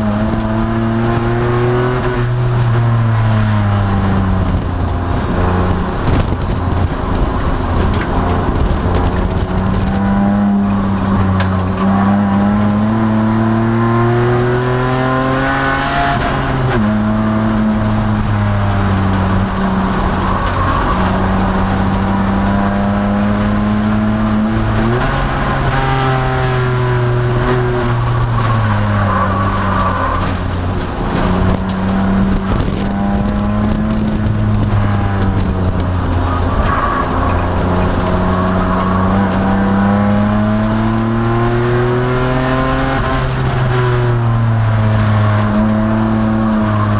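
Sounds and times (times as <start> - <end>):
car engine accelerating: 0.0 - 46.9.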